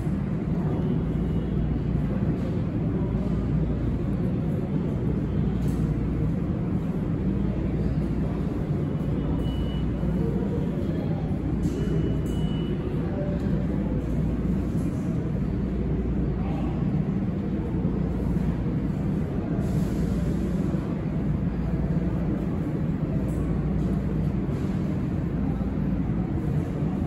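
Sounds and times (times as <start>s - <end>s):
subway train rumbling: 0.0s - 27.0s.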